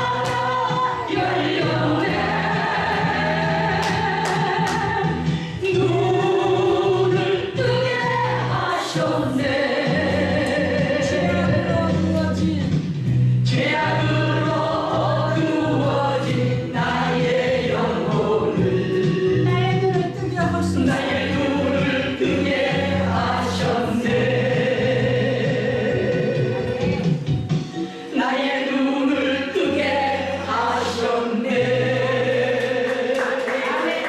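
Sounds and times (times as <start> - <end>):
choir singing: 0.0 - 11.7, 13.4 - 19.7, 20.6 - 27.2, 27.8 - 34.0
instrumental accompaniment: 0.0 - 33.7.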